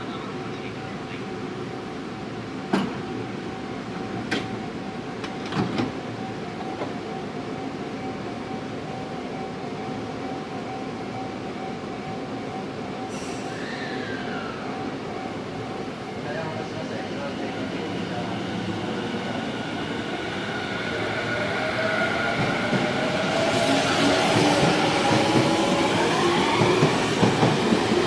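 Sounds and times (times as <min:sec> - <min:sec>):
electric train rumble and hum: 0:00.0 - 0:28.0.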